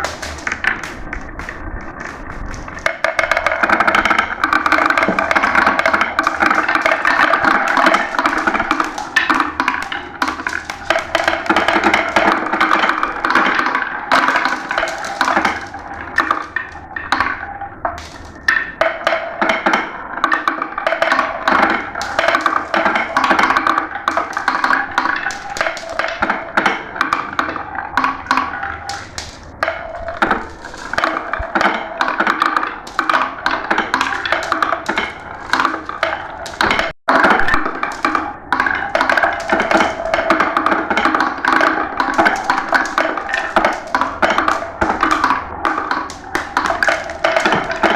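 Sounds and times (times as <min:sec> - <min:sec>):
marbles clattering down a run: 0:00.0 - 0:47.9.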